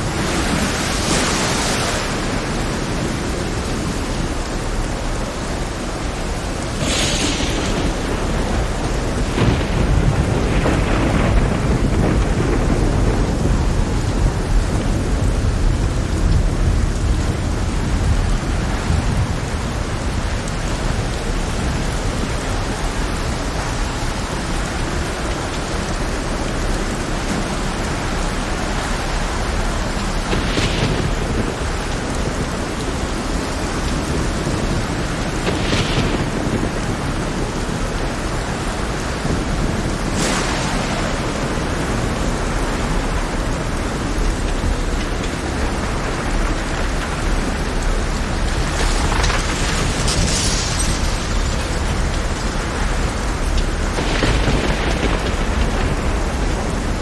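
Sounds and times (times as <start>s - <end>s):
heavy rain: 0.0s - 57.0s
low rumble of thunder: 0.0s - 57.0s.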